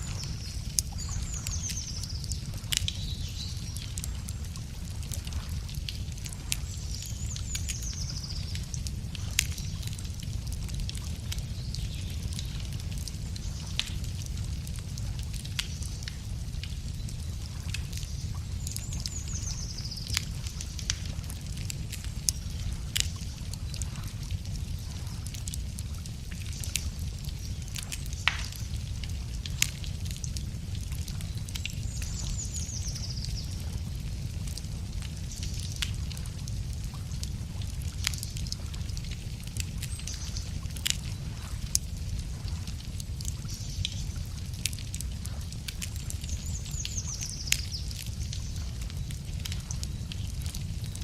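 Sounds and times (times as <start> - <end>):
low fire rumble: 0.0 - 51.0
wood fire crackling and popping: 0.0 - 51.0.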